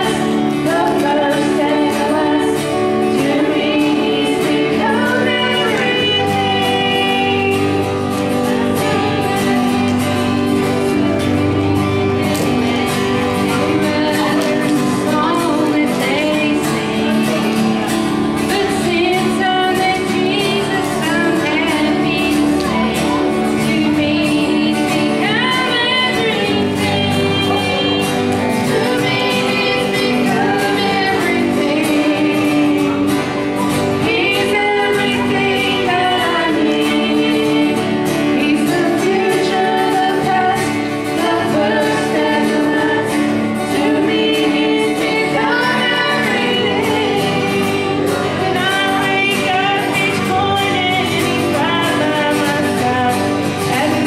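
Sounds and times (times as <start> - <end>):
acoustic guitars: 0.0 - 54.0
women singing together: 0.0 - 54.0.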